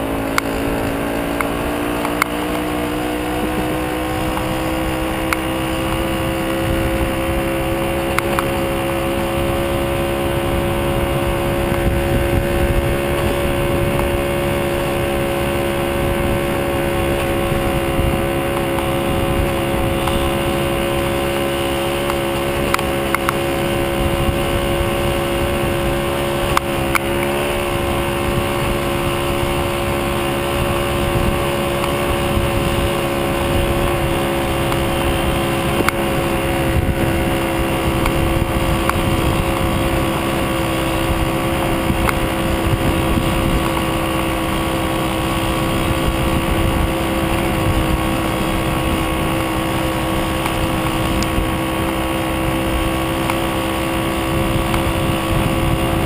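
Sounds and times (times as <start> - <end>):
moped engine droning: 0.0 - 56.0.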